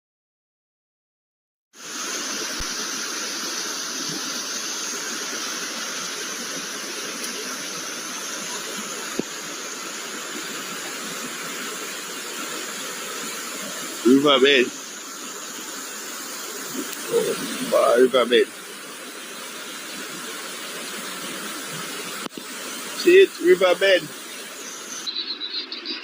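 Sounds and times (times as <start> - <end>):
floodwater rushing over road: 1.8 - 25.1.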